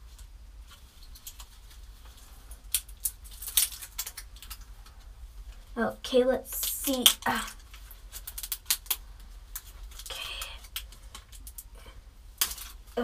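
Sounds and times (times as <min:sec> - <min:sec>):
plastic wrapper crinkling: 0:00.1 - 0:13.0.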